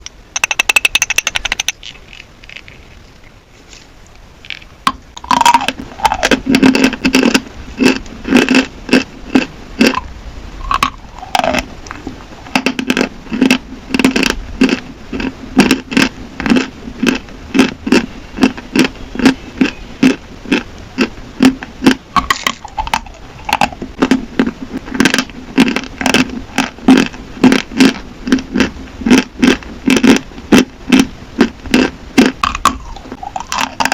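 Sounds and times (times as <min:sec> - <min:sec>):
chalk crunching chews: 0:04.5 - 0:33.9.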